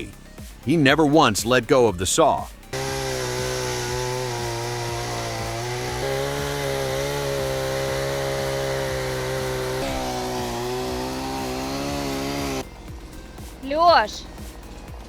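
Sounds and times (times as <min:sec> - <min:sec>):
chainsaw engine running: 0:02.7 - 0:15.0.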